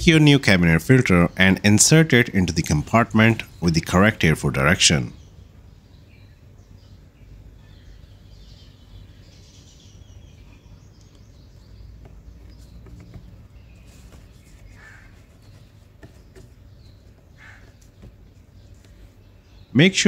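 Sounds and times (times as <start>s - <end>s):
bird calls: 2.5s - 20.0s.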